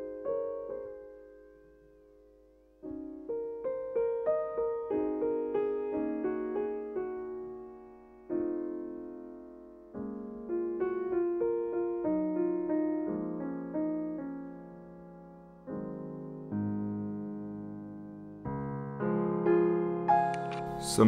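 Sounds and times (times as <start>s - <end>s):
solo piano music: 0.0s - 21.0s.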